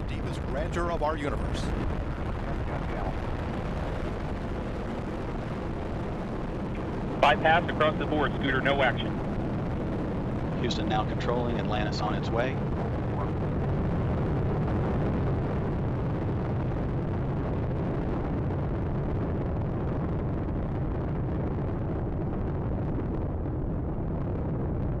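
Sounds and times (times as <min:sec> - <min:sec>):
rocket engines roaring: 0:00.0 - 0:25.0.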